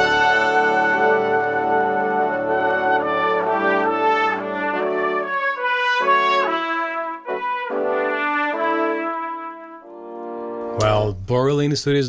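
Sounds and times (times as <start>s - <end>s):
orchestral brass chords: 0.0s - 11.0s.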